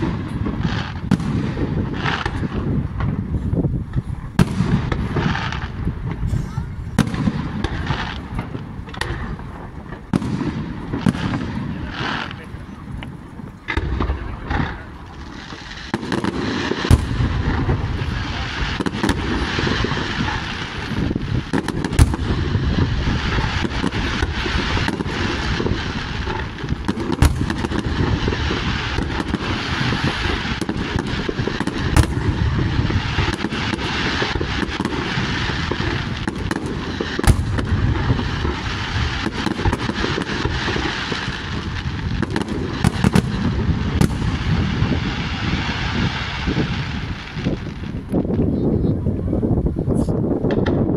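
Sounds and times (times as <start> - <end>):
fireworks sharp bangs: 0.0 - 48.8
fireworks crackling: 0.0 - 50.9.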